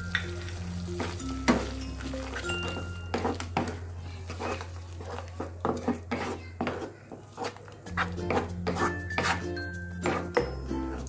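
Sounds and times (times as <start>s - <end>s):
background music: 0.0s - 6.1s, 7.7s - 11.0s
spatula scraping a pan: 0.5s - 11.0s.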